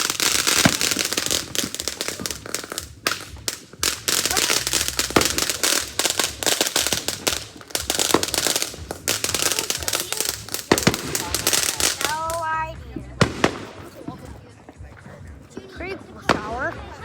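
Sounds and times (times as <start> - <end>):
firework crackling and popping: 0.0 - 17.0.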